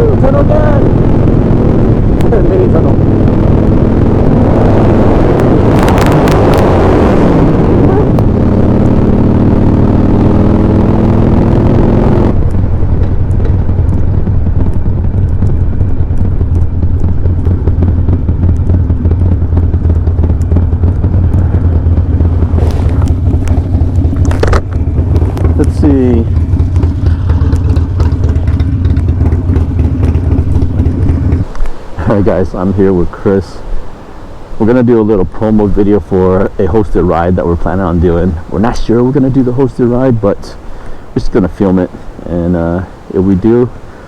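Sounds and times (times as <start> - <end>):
motorcycle engines at road speed: 0.0 - 44.0.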